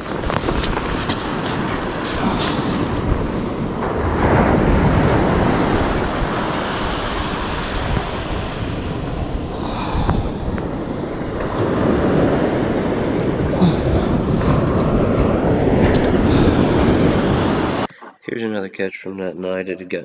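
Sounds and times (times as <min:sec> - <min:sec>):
surf washing on beach: 0:00.0 - 0:17.9
wind buffeting microphone: 0:00.0 - 0:17.9.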